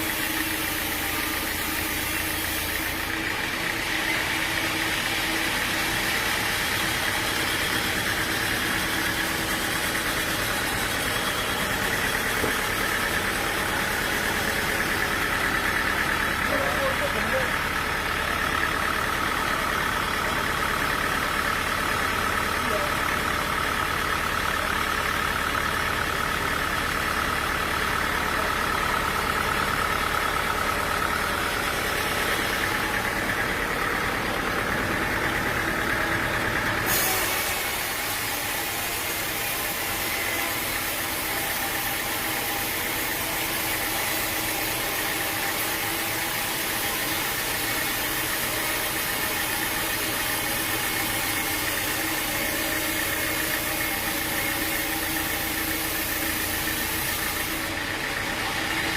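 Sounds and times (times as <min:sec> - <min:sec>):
sawmill machinery droning: 0:00.0 - 0:58.9.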